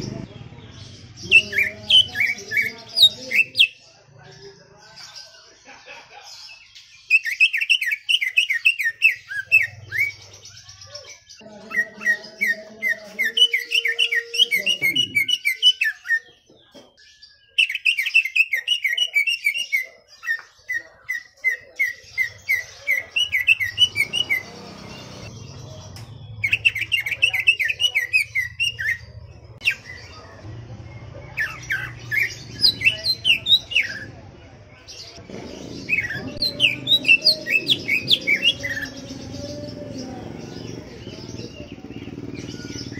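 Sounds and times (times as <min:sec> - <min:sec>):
bird singing chattering notes: 0:00.0 - 0:03.8, 0:06.5 - 0:42.9.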